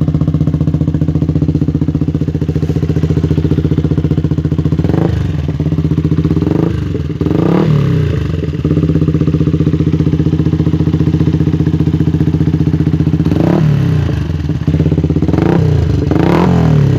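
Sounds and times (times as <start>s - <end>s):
motorcycle engine idling: 0.0s - 16.9s
motorcycle engine revving: 0.0s - 16.9s.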